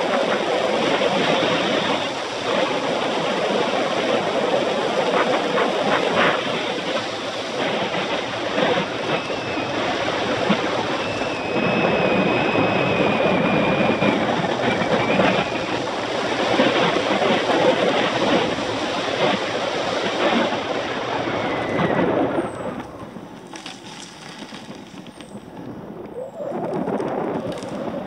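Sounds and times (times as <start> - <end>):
bicycle tyre rumble on asphalt: 0.0 - 28.0
wind rushing over microphone: 0.0 - 28.0.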